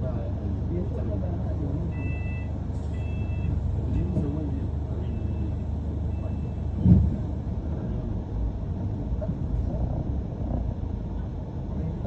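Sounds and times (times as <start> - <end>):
bus interior low rumble: 0.0 - 12.0.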